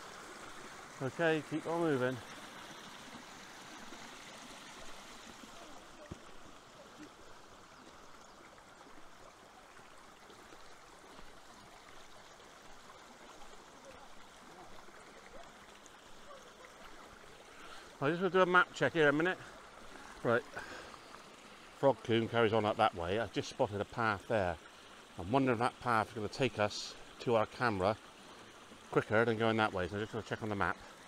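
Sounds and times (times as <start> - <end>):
faint stream trickling: 0.0 - 31.0.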